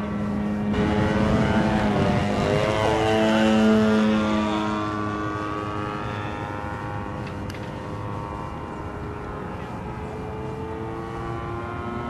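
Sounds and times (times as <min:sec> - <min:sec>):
model airplane engine: 0:00.0 - 0:12.0.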